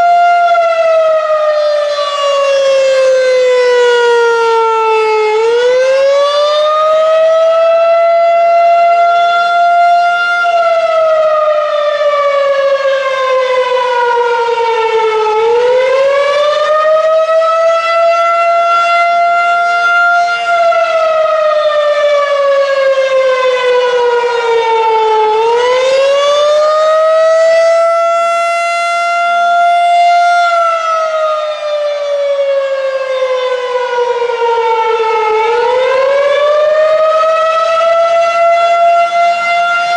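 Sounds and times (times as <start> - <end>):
electromechanical siren wailing: 0.0 - 39.9.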